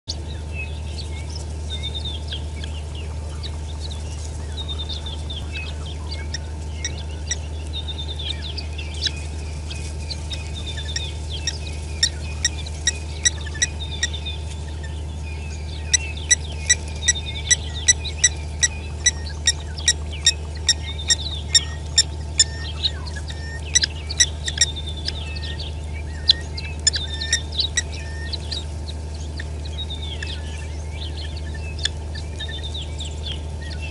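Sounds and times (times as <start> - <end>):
guineafowl calling: 0.0 - 33.9.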